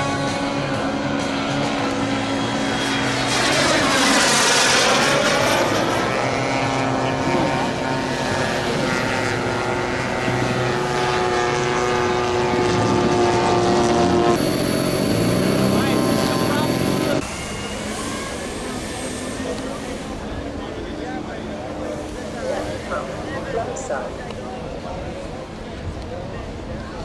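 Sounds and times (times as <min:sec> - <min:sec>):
model airplane engines: 0:00.0 - 0:27.0.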